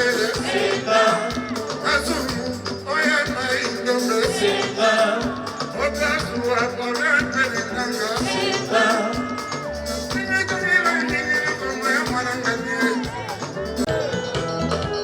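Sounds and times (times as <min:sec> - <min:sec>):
person singing: 0:00.0 - 0:14.3
bass: 0:00.0 - 0:15.0
drum beat: 0:00.0 - 0:15.0.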